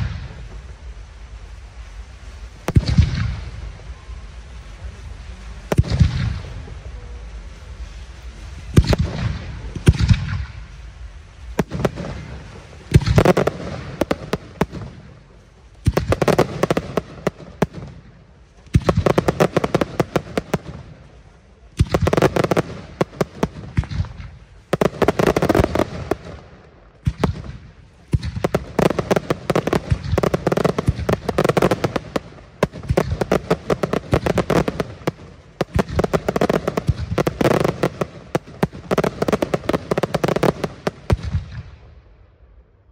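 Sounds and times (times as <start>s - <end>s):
firework crackling: 0.0s - 42.9s.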